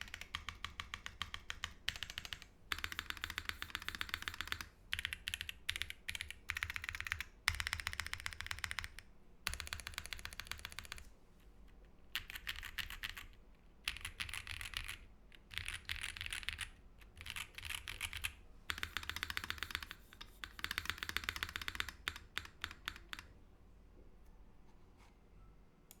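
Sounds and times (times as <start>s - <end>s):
typing on mechanical keyboard: 0.0s - 11.1s, 12.1s - 23.3s.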